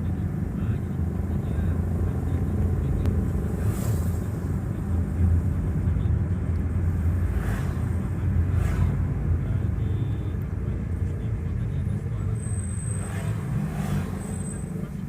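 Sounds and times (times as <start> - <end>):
passing traffic whooshes: 0.0 - 15.0
vehicle rumble on the move: 0.0 - 15.0.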